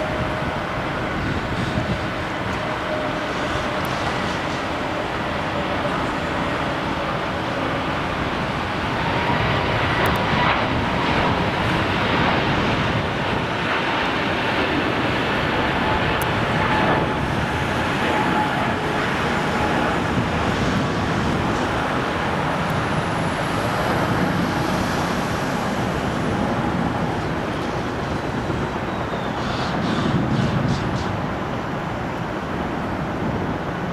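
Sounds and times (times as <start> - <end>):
high turbine whine: 0.0 - 33.9
jet airliner engine noise: 0.0 - 33.9.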